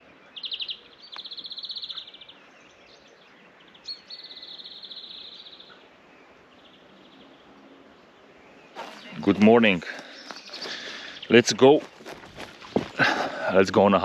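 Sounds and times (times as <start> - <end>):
faint outdoor background hiss: 0.0 - 14.0.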